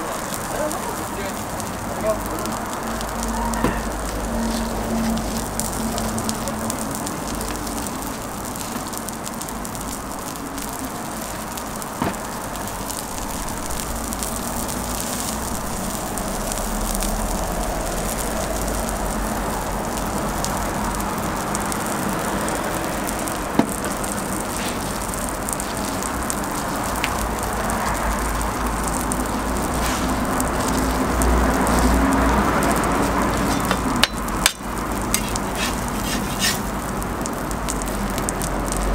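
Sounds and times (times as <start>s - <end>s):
bread sizzling on griddle: 0.0s - 38.9s.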